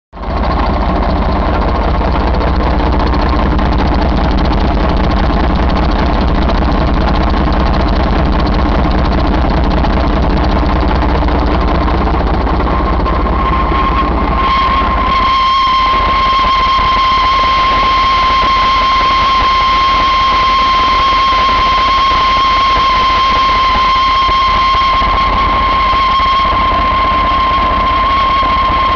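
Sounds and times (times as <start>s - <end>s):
diesel engine running: 0.2s - 28.9s
high whine: 0.2s - 28.9s.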